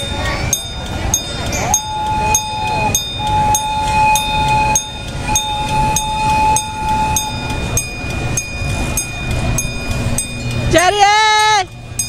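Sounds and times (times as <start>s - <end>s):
low rumble: 0.0s - 12.0s
steady high tones: 0.0s - 12.0s
train wheels clacking over rail joints: 0.0s - 12.0s.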